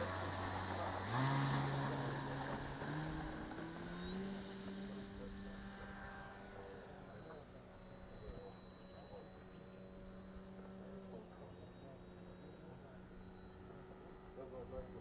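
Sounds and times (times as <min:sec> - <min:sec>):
model airplane propeller drone: 0:00.0 - 0:15.0.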